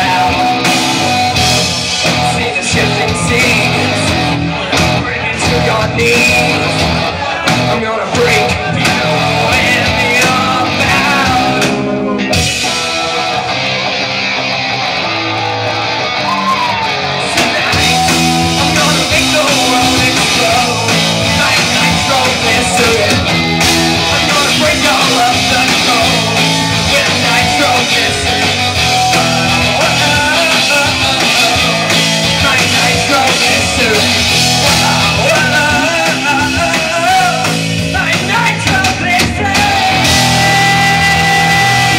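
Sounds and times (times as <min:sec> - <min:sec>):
rock band playing live: 0:00.0 - 0:41.9.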